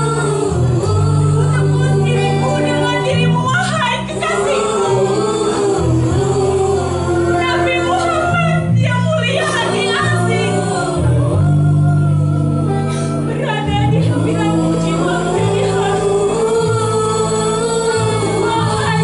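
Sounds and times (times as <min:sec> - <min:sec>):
choir singing slow song: 0:00.0 - 0:19.0
steady low notes: 0:00.0 - 0:19.0.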